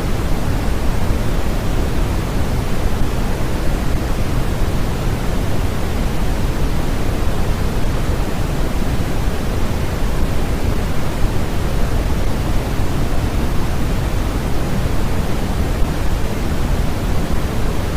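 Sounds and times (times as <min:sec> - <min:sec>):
pink noise hiss: 0:00.0 - 0:17.9.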